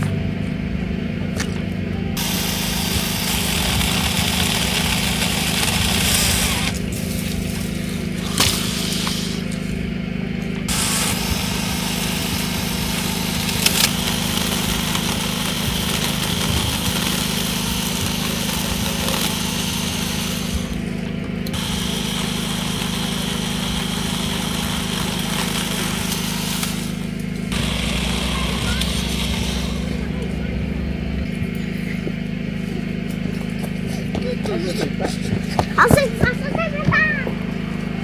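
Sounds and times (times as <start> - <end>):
chain saw cutting branches: 0.0 - 38.0
electric pruner motor humming: 0.0 - 38.0.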